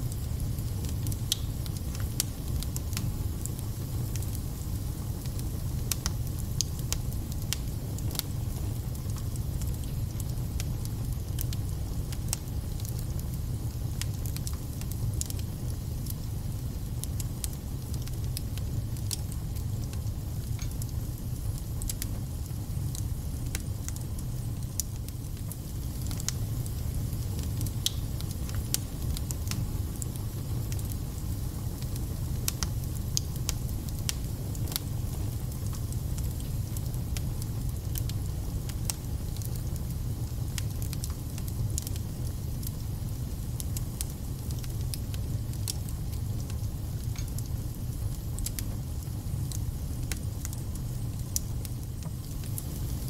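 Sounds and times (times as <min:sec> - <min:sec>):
wood fire rumbling: 0:00.1 - 0:53.0
logs crackling and popping: 0:05.2 - 0:13.3, 0:16.9 - 0:31.0, 0:31.6 - 0:42.8, 0:43.5 - 0:53.0.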